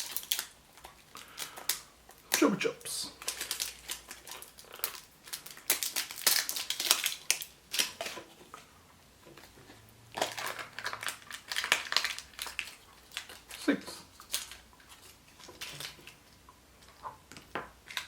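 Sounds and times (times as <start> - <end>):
wrapper crinkling and tearing: 0.0 - 8.5, 9.4 - 18.0.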